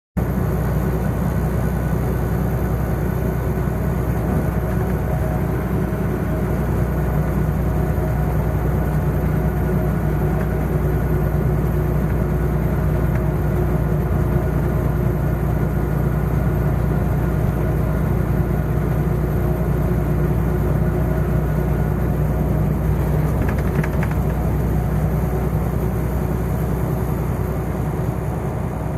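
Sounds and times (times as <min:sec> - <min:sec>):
road noise: 0:00.2 - 0:28.9
truck diesel engine drone: 0:00.2 - 0:28.9.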